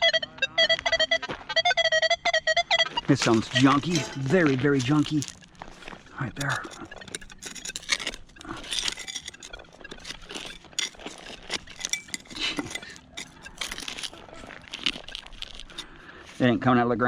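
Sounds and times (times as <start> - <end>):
digging tool scraping stony ground: 3.0 - 16.7.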